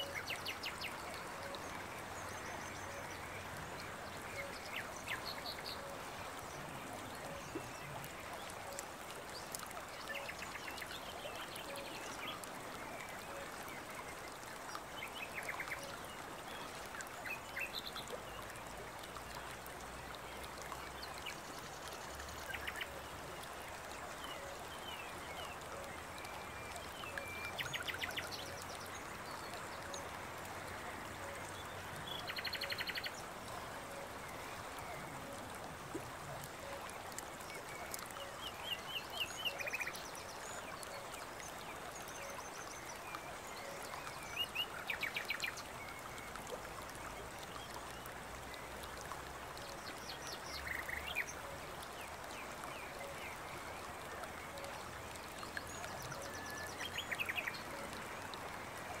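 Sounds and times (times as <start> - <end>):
running stream: 0.0 - 59.0.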